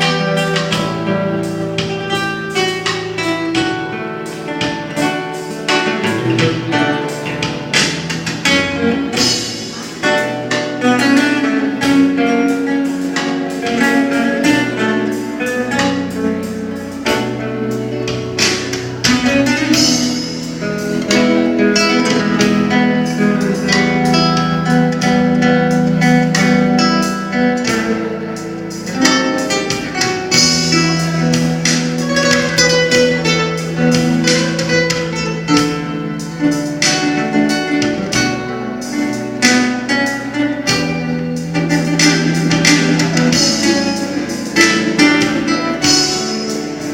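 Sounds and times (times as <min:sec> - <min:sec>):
plucked string instrument music: 0:00.0 - 0:46.9.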